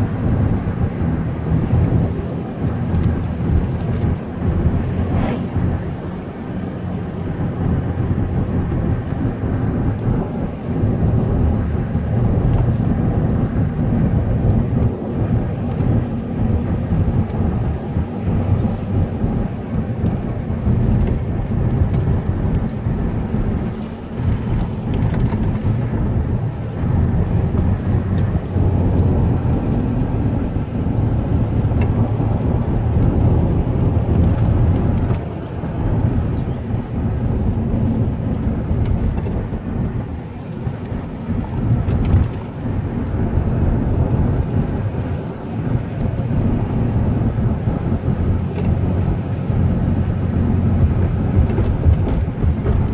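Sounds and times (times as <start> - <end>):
car driving rumble: 0.0 - 52.9.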